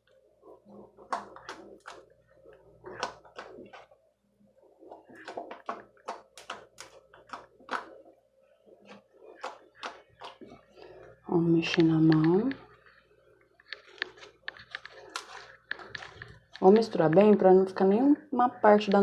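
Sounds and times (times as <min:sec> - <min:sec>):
slime squelching: 0:00.0 - 0:17.2.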